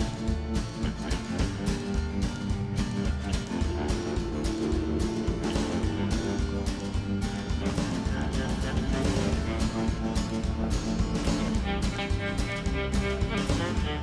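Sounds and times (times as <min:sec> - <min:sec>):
guitar-driven rock music: 0:00.0 - 0:14.0
steady drum beat: 0:00.0 - 0:14.0.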